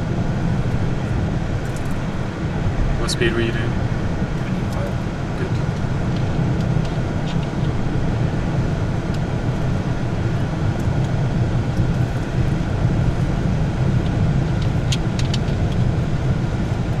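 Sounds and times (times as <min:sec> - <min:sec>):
vehicle engine and tyre noise: 0:00.0 - 0:17.0.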